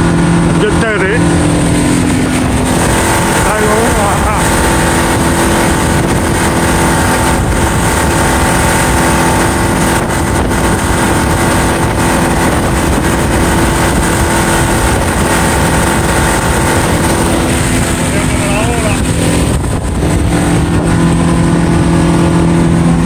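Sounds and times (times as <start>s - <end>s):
outboard motor running: 0.0s - 23.0s
water rushing: 0.0s - 23.0s
wind: 0.0s - 23.0s.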